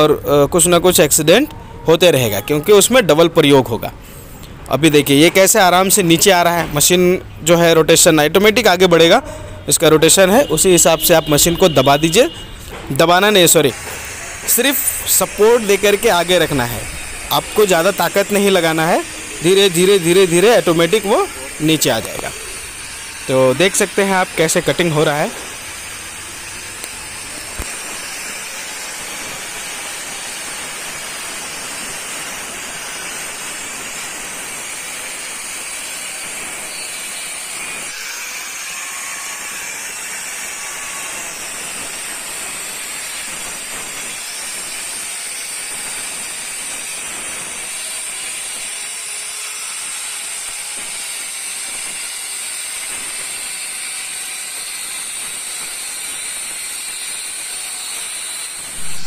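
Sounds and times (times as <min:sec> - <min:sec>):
wall cutter grinding brick: 0:08.0 - 0:59.0.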